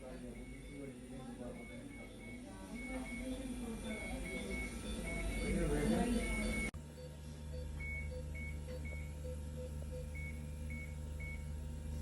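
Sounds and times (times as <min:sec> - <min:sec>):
short high alarm beeps: 0:00.0 - 0:11.4
fainter lower beeps: 0:00.0 - 0:11.5
steady low hum: 0:00.0 - 0:12.0.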